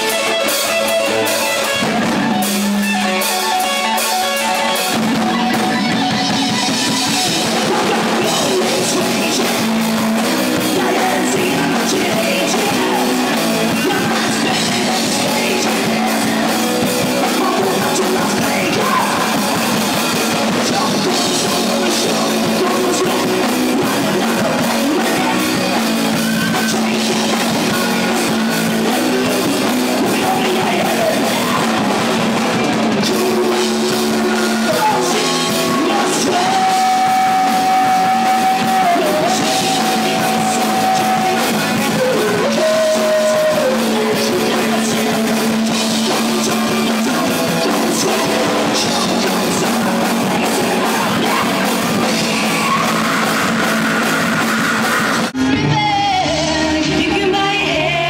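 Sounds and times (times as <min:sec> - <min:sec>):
bass guitar: 0:00.0 - 0:58.0
distorted electric guitar: 0:00.0 - 0:58.0
drum kit: 0:00.0 - 0:58.0
man singing into a microphone: 0:02.6 - 0:58.0.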